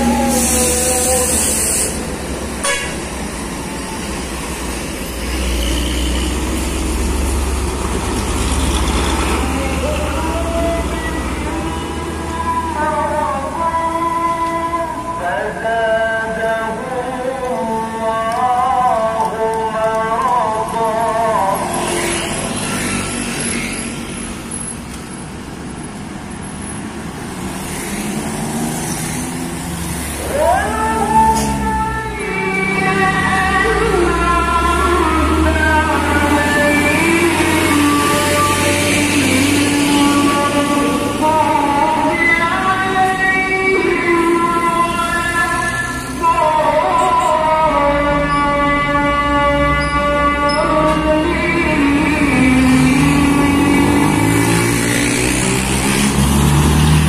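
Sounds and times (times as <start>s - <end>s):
diesel truck engines rumbling: 0.0s - 57.0s
road traffic passing: 0.0s - 57.0s.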